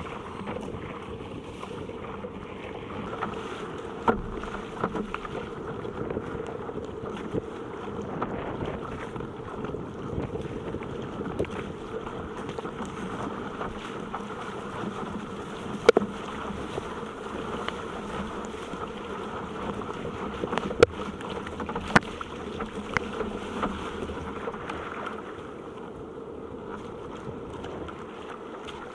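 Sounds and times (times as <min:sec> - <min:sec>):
wind and water rushing: 0:00.0 - 0:28.9.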